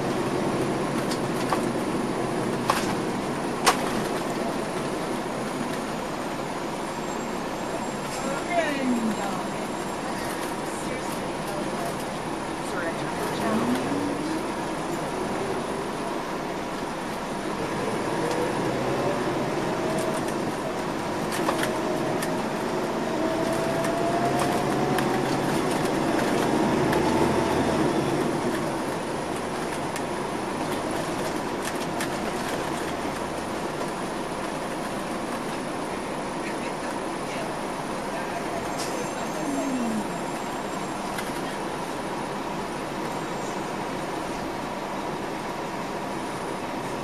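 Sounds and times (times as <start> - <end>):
bus interior rumble and road noise: 0.0 - 47.0
drivetrain whine: 0.0 - 47.0.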